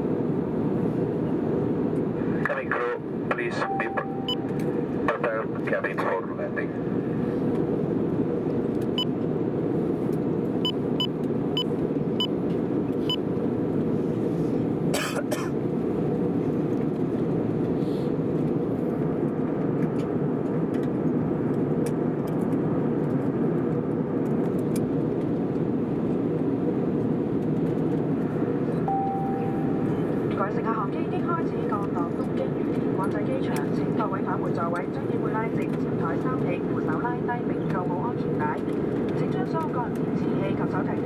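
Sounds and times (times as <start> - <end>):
airplane cabin engine noise: 0.0 - 41.0.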